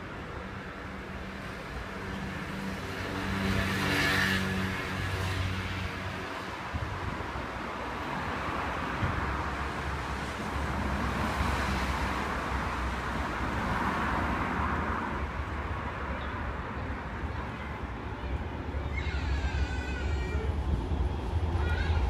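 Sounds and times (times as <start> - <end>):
passing vehicles rumble and hiss: 0.0 - 22.0.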